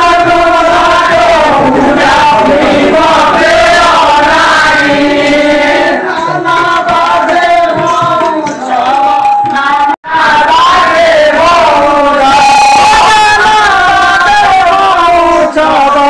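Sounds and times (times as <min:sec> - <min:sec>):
group singing folk song: 0:00.0 - 0:16.0.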